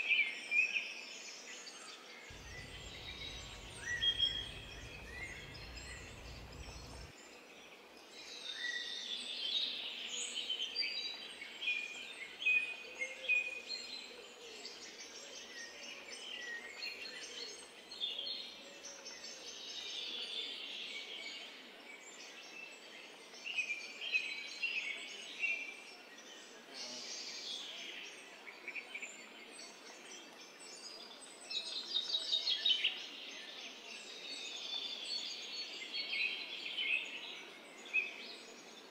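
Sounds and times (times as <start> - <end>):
background noise: 0.0 - 38.9
small birds singing and chirping: 0.5 - 38.9.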